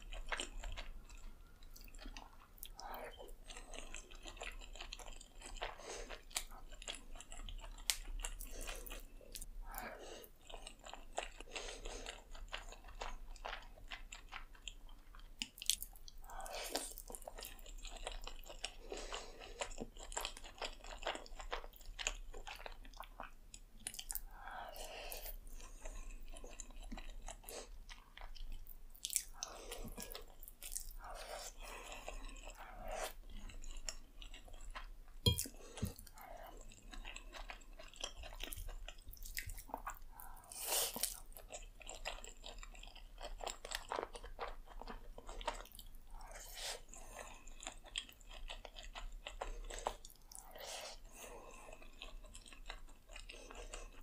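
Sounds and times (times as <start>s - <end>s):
close chewing mouth sounds: 0.0s - 54.0s.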